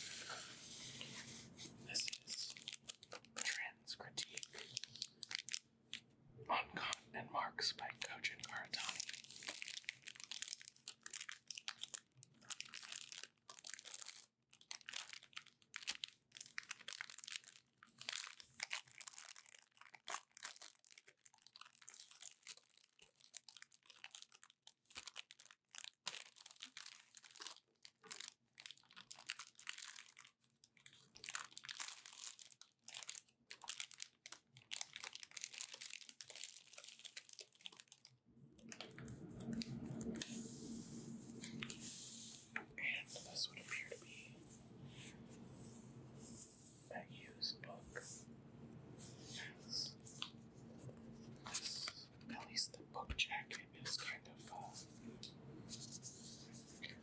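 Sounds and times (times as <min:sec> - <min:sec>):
plastic wrapping crinkling: 0:00.0 - 0:06.0, 0:07.9 - 0:48.3, 0:49.0 - 0:57.0.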